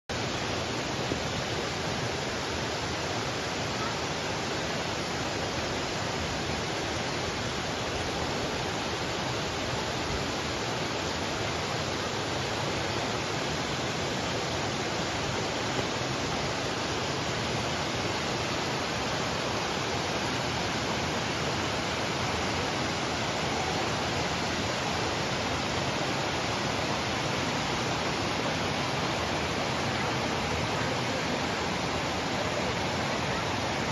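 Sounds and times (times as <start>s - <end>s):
rush of flowing water: 0.1s - 33.9s.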